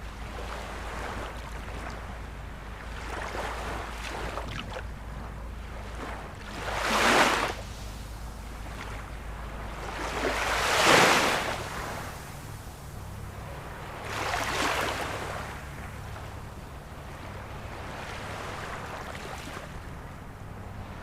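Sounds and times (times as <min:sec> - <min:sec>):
low steady rumble: 0:00.0 - 0:21.0
ocean waves breaking: 0:00.0 - 0:21.0.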